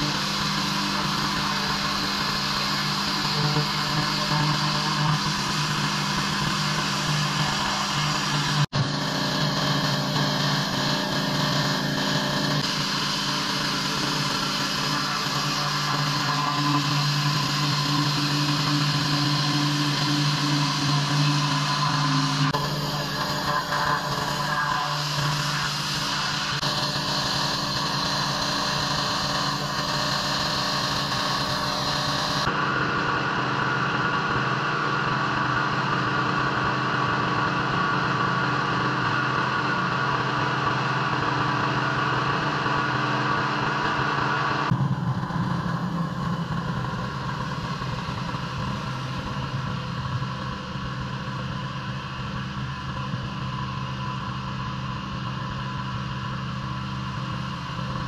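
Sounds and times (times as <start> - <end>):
pressure washer engine running: 0.0 - 49.1.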